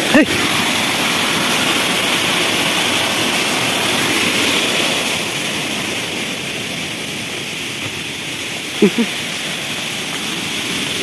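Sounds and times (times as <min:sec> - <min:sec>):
waterfall rushing onto rocks: 0:00.0 - 0:11.0.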